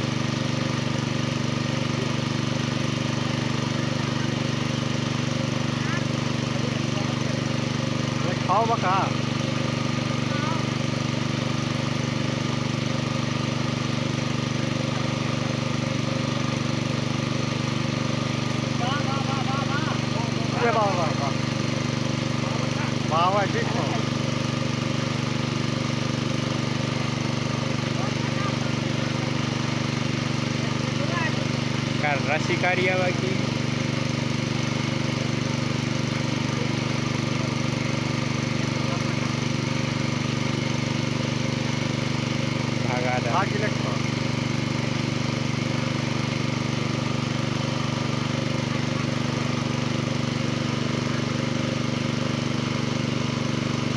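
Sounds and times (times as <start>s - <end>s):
small engine running steadily: 0.0s - 53.9s.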